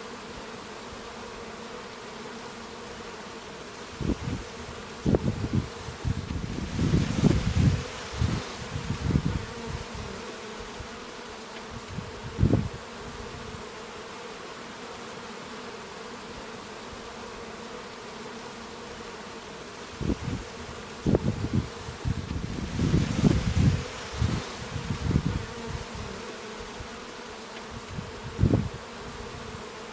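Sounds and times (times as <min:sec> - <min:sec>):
honeybees buzzing: 0:00.0 - 0:29.9.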